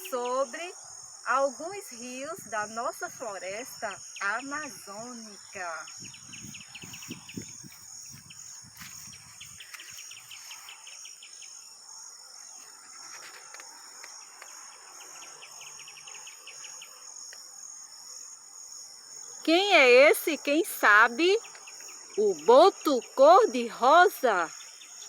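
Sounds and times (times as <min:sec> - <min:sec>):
cricket-like trilling: 0:00.0 - 0:25.0
insects chirring: 0:00.0 - 0:25.0.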